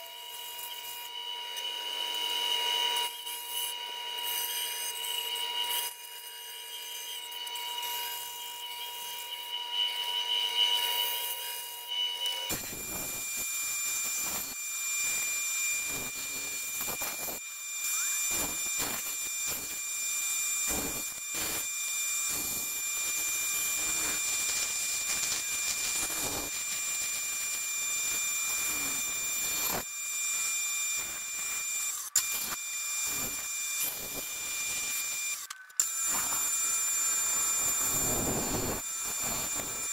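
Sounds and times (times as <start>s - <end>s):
bandsaw whine: 0.0s - 39.9s.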